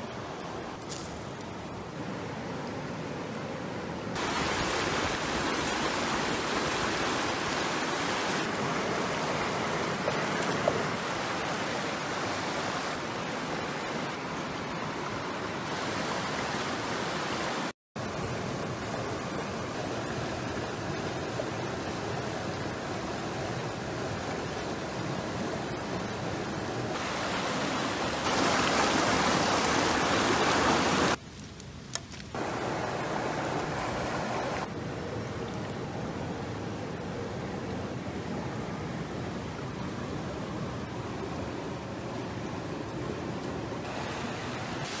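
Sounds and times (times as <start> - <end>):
stream rushing over rocks: 1.7 - 31.2, 32.4 - 45.0.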